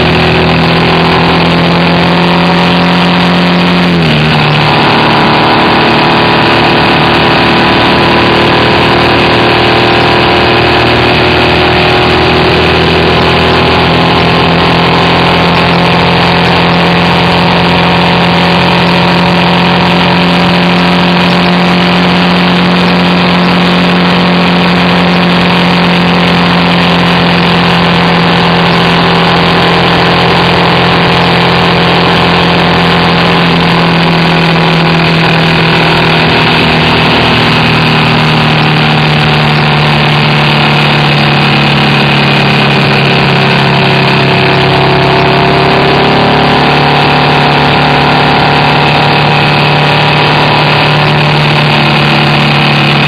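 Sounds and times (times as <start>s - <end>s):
motorcycle engine cruising: 0.0s - 53.0s
wind and road noise: 0.0s - 53.0s.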